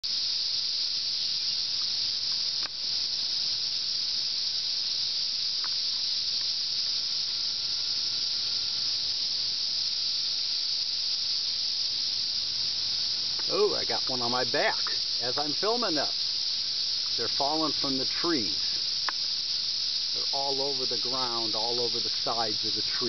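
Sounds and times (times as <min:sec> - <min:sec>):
cicadas chorus: 0:00.0 - 0:23.0.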